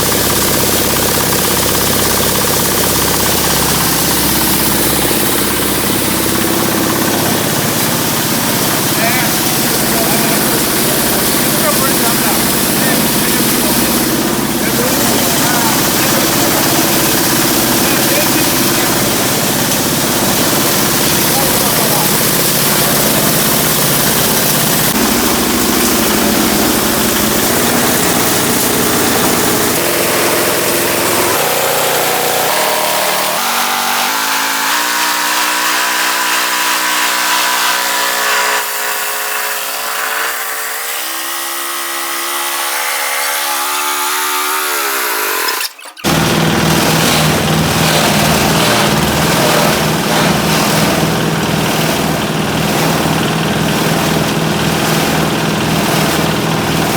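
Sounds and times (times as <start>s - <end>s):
diesel engine running loudly: 0.0s - 40.4s, 46.0s - 56.9s.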